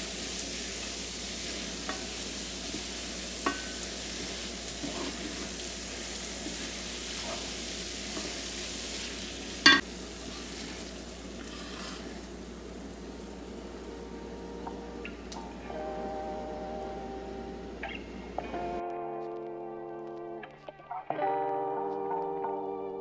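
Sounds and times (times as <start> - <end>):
food sizzling in a frying pan: 0.0 - 18.8.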